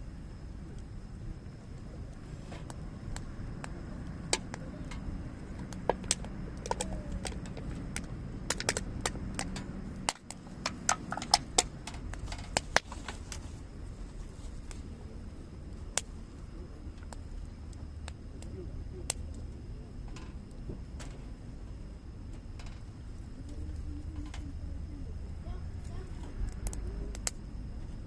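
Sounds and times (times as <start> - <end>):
low steady rumble: 0.0 - 28.0
wood fire crackling: 0.0 - 28.0.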